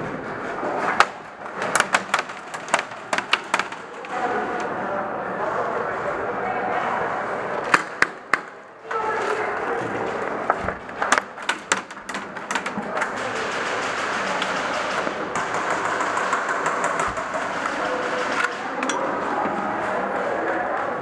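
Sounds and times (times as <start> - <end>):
distant voices: 0.0 - 21.0.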